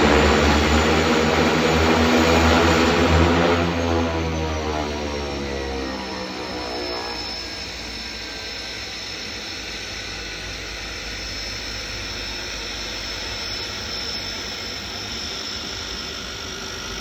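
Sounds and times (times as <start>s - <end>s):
aircraft turbine engine running: 0.0s - 17.0s.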